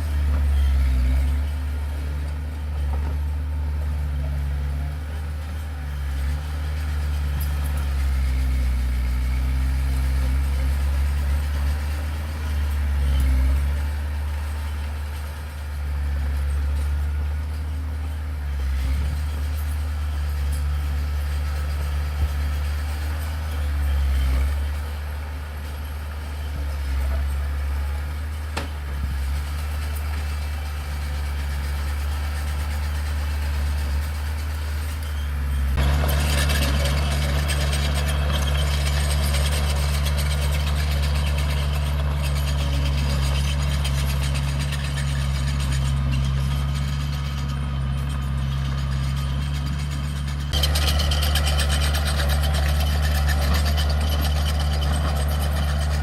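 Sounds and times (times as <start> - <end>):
heavy machinery diesel engine rumble: 0.0 - 56.0.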